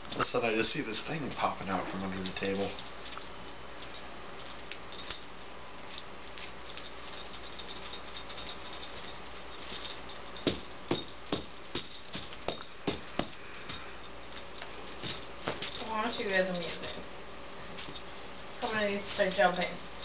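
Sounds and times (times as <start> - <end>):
quiet room noise: 0.0 - 20.0.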